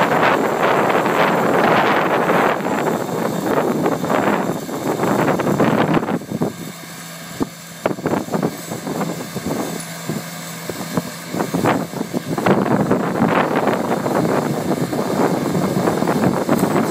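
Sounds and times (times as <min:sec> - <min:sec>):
hedge trimmer cutting branches: 0:00.0 - 0:16.9.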